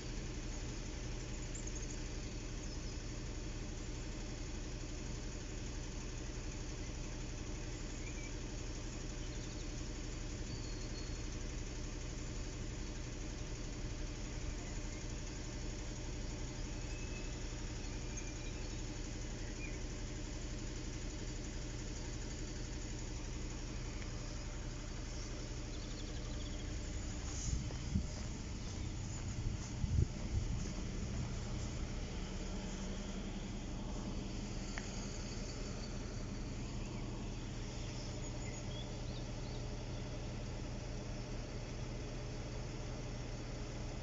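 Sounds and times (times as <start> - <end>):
constant low hum: 0.0 - 44.0
engine idling: 0.0 - 44.0
faint bird chirps: 0.4 - 4.2, 6.6 - 40.3.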